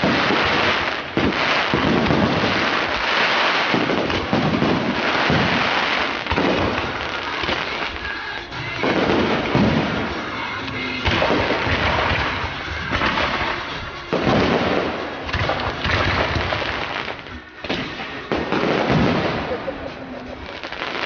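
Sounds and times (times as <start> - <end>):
firework bangs: 0.0 - 21.0
fireworks crackling: 0.0 - 21.0
music playing: 0.0 - 21.0.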